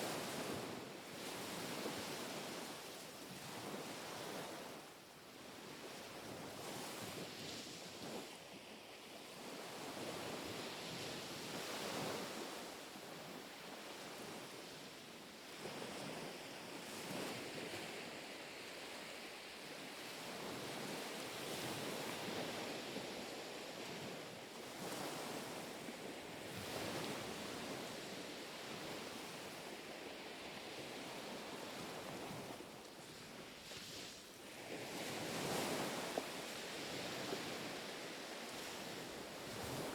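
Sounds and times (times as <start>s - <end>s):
gentle sea waves lapping on shore: 0.0s - 39.9s.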